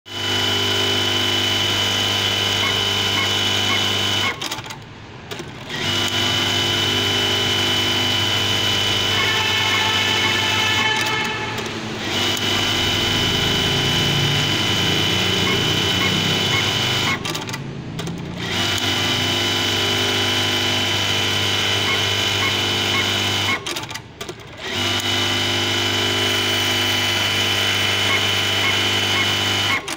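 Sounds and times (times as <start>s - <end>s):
sewing machine whining: 0.1s - 29.9s.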